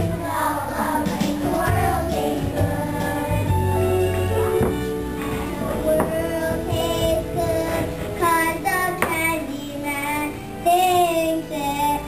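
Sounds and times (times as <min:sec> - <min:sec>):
children singing together: 0:00.0 - 0:12.0
musical accompaniment: 0:00.0 - 0:12.0.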